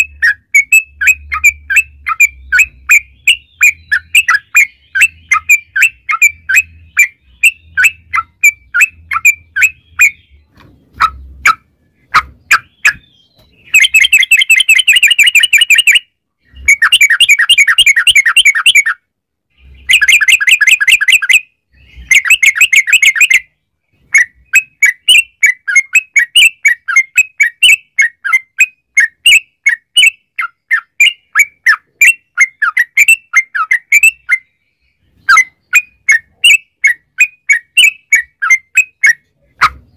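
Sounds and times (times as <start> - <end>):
bulbul chirping: 0.0 - 39.9.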